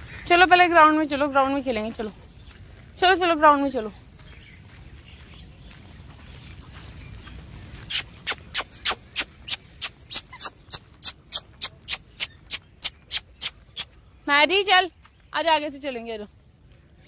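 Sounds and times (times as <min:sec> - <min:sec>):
footsteps on sandy dirt path: 0:00.0 - 0:17.0.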